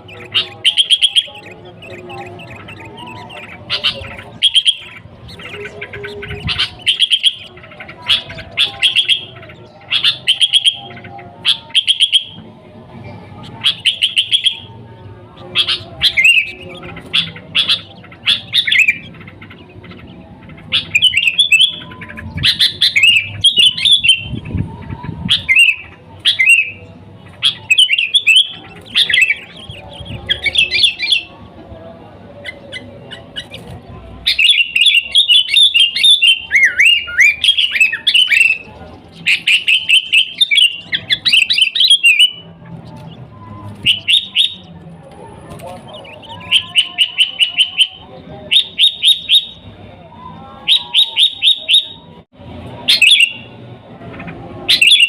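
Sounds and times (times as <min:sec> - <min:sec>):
bird chirping and warbling: 0:00.0 - 0:31.7, 0:32.3 - 0:52.2, 0:52.8 - 0:55.0.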